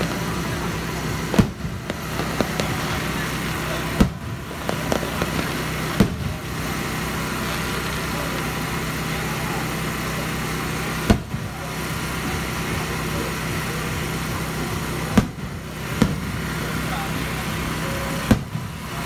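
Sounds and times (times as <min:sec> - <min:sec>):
fireworks bangs: 0:00.0 - 0:19.0
steady low hum: 0:00.0 - 0:19.0.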